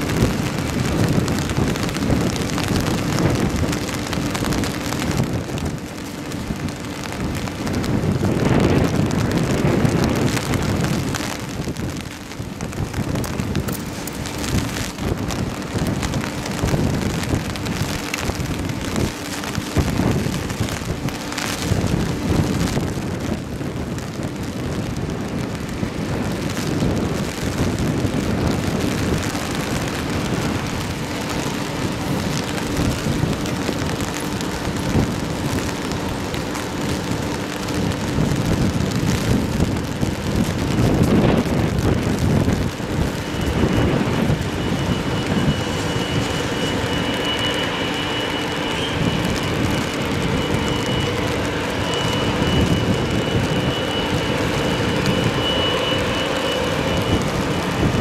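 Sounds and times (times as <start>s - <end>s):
heavy rain pouring: 0.0s - 58.0s
jet engines whining: 0.0s - 58.0s.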